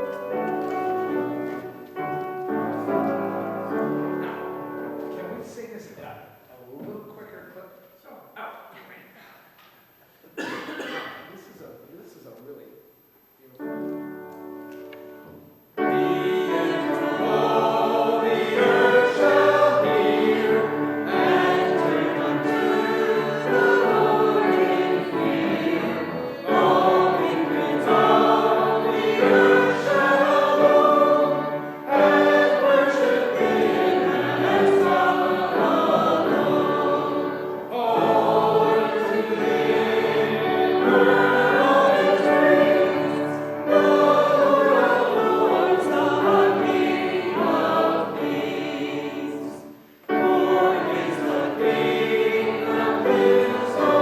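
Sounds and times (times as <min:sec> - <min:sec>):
congregation singing a hymn: 0:00.0 - 0:05.6, 0:13.7 - 0:54.0.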